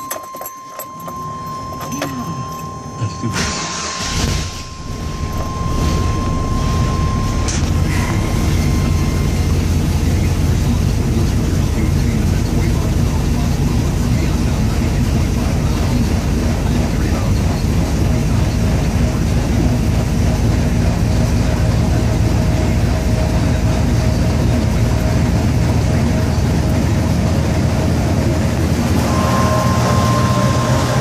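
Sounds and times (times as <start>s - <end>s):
high steady whine: 0.0s - 31.0s
truck engine running: 0.0s - 31.0s.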